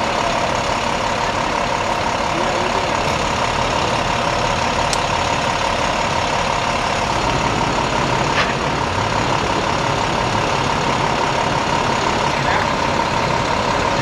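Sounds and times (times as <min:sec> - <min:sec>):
large engine idling: 0:00.0 - 0:14.0.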